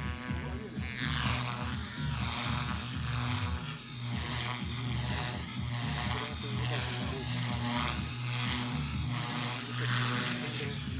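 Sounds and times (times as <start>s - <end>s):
background music: 0.0s - 10.9s
helicopter rotor blades swishing: 0.0s - 10.9s
thin motor whine: 0.0s - 10.9s.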